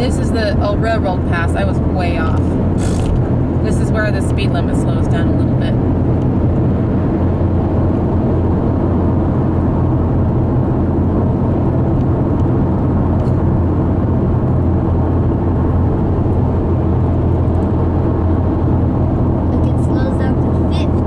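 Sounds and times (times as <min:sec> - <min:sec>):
car interior road and engine drone: 0:00.0 - 0:21.0.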